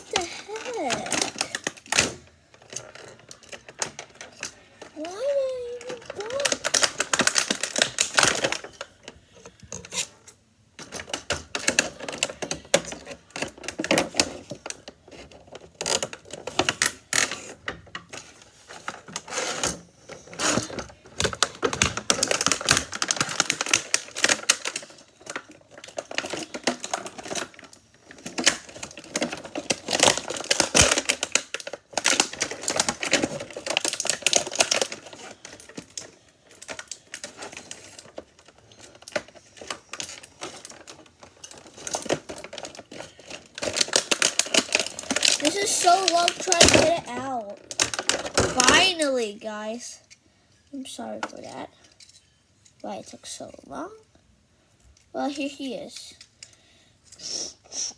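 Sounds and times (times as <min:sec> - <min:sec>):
plastic and cardboard crinkling: 0:00.0 - 0:53.9.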